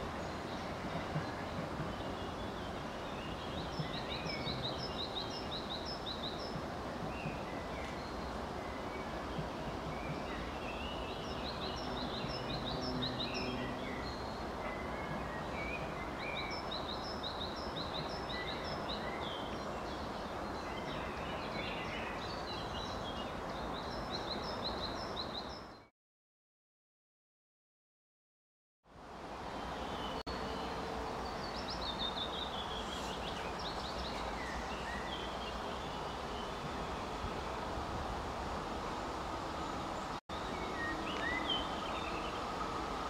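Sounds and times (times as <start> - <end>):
low outdoor noise: 0.0 - 25.9, 28.9 - 43.0
songbird singing: 0.0 - 25.9, 29.5 - 37.7, 38.6 - 43.0.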